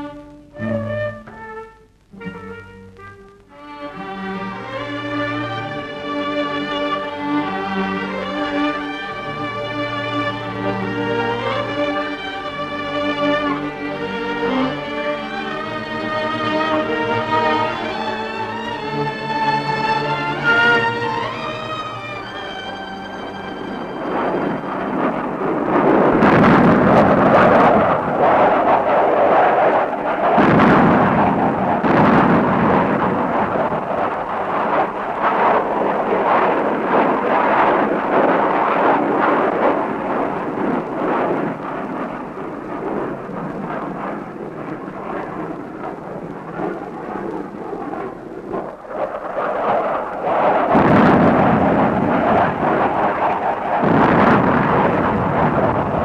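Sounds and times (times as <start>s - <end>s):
big detonations: 0.0s - 56.0s
rumble of explosions: 0.0s - 56.0s.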